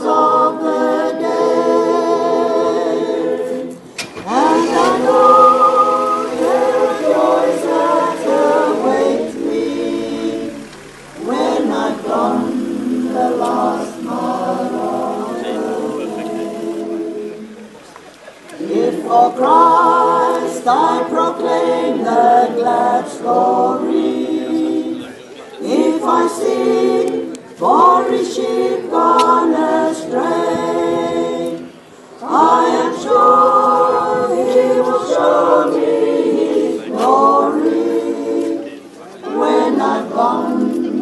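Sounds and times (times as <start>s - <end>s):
group singing a hymn: 0.0s - 41.0s.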